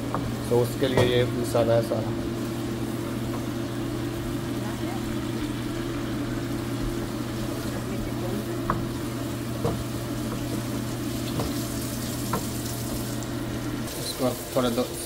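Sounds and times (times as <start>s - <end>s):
steady low hum: 0.0s - 15.0s
vegetables frying in oil: 0.0s - 15.0s.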